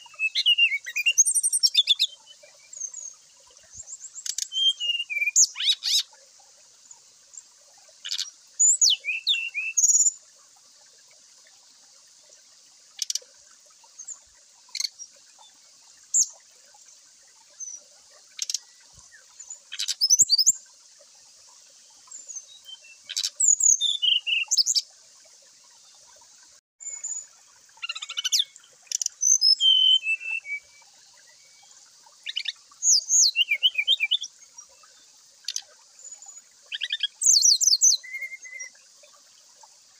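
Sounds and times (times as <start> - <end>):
bird calls and song: 0.0 - 6.2, 6.9 - 10.2, 12.9 - 20.6, 21.5 - 24.9, 26.8 - 39.2.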